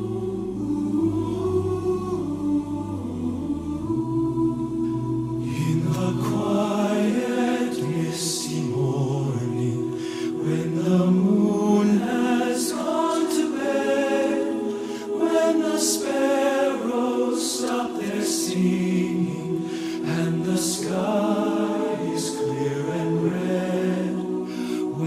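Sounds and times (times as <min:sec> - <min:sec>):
choir singing in harmony: 0:00.0 - 0:25.0.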